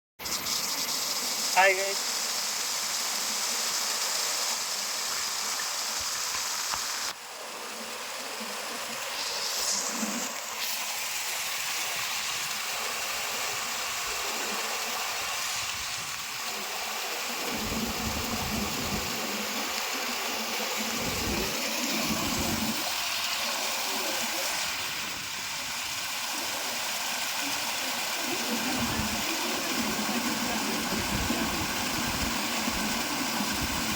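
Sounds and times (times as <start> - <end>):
waterfall rushing and splashing: 0.6 - 7.3, 8.0 - 33.9.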